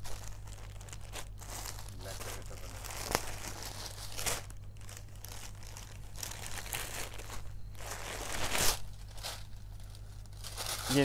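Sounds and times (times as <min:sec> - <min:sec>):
fabric rustling and crinkling: 0:00.0 - 0:11.0.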